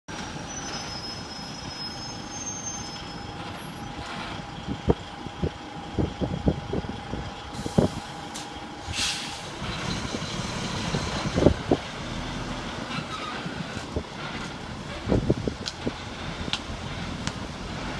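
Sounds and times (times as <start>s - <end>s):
vehicle engine whine: 0.1s - 17.9s.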